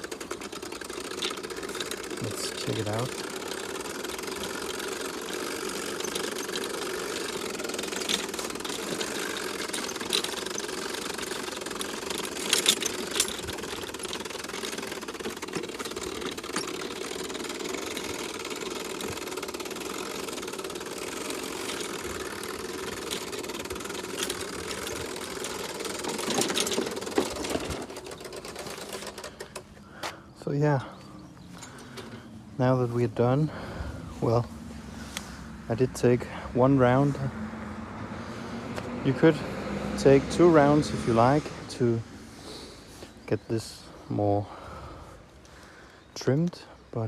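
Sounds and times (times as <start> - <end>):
electric lawn mower running: 0.0 - 30.3, 30.9 - 32.6, 33.4 - 42.8.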